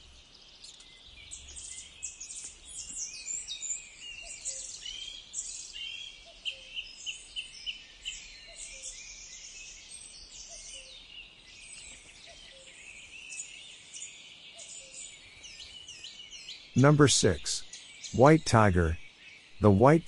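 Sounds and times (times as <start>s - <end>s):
small birds chirping: 0.0s - 16.7s.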